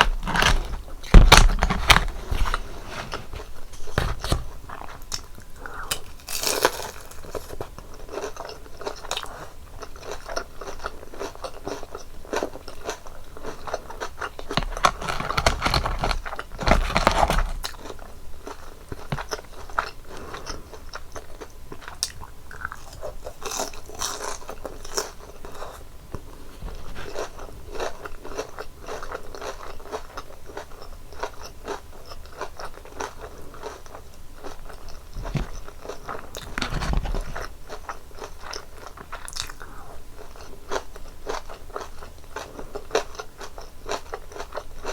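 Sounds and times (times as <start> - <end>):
crunching and chewing fried food: 0.0 - 44.9.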